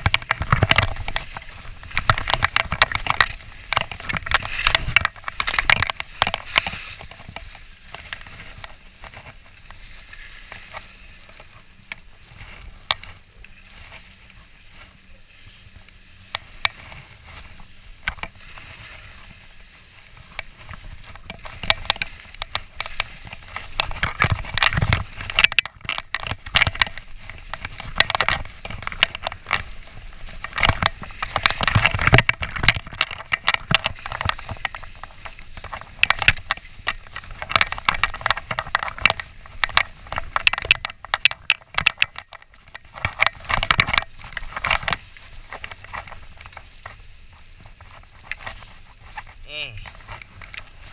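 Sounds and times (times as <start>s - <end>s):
skis scraping over snow: 0.0s - 50.9s.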